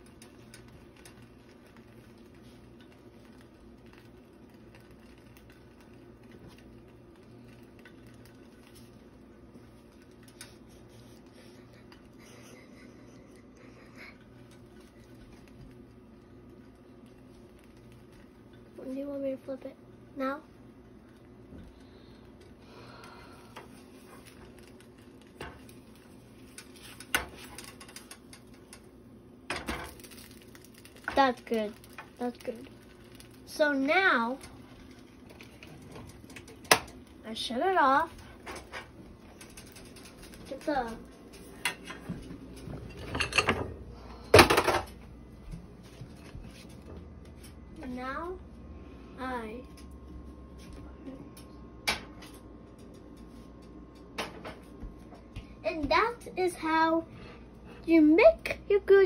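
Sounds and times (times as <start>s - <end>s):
sandwich frying in pan: 0.0s - 48.3s
low steady hum: 0.0s - 59.0s.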